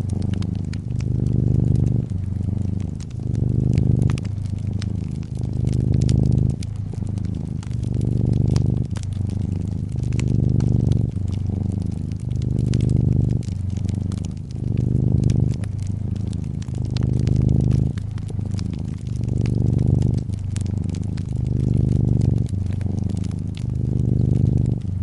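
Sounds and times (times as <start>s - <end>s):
cat purring: 0.0s - 25.0s
wood fire crackling: 0.0s - 25.0s.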